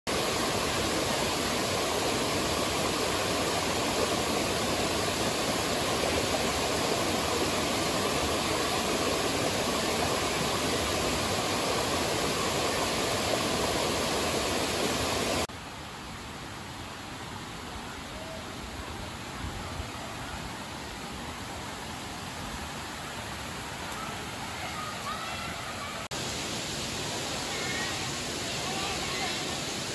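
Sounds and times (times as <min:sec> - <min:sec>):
stream rushing over cascades: 0:00.1 - 0:29.9.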